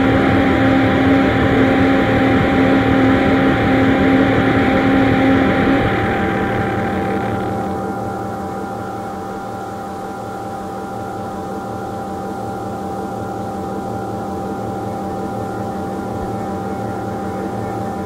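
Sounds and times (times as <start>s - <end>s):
ambient drone music: 0.0s - 18.0s.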